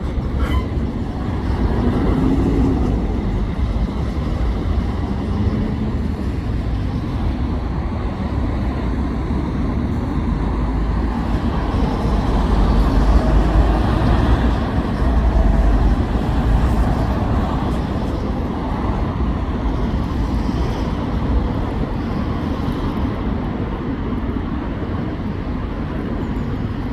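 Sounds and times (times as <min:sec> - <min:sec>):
road traffic passing: 0:00.0 - 0:22.3.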